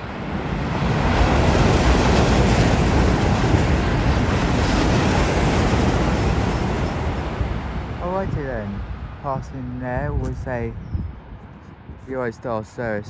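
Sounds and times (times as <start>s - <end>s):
high-speed train passing: 0.0s - 13.0s.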